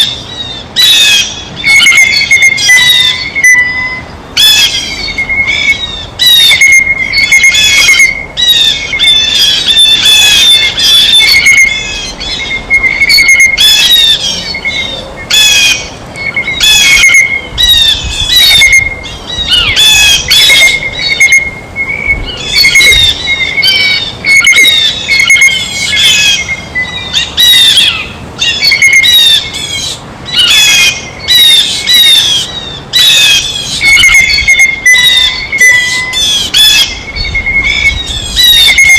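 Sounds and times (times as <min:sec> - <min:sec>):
blue jays squawking: 0:00.0 - 0:38.9.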